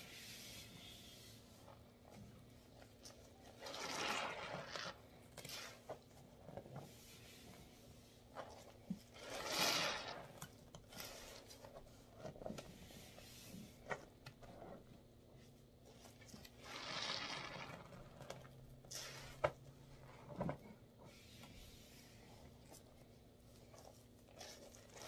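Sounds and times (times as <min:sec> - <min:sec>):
wet sponge squishing: 0:00.0 - 0:25.0.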